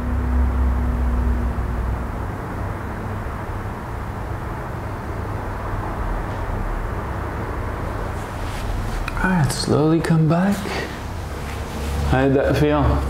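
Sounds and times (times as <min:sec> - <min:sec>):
faint hum: 0:00.0 - 0:13.0
low steady rumble: 0:00.0 - 0:13.0.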